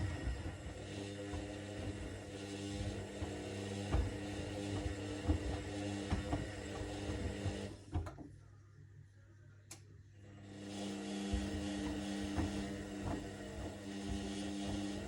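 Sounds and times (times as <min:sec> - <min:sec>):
balls thumping in washing machine: 0:00.0 - 0:08.3, 0:11.2 - 0:15.0
washing machine motor hum: 0:00.0 - 0:08.4, 0:10.2 - 0:15.0.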